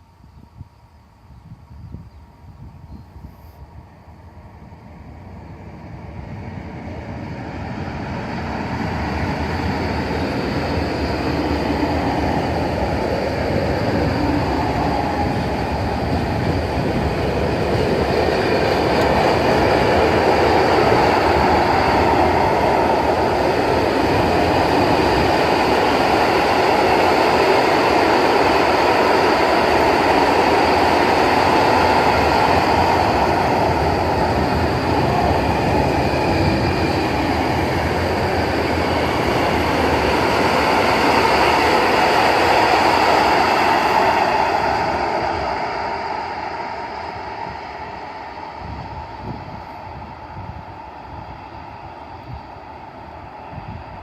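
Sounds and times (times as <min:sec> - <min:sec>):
freight train passing: 0:01.9 - 0:54.0.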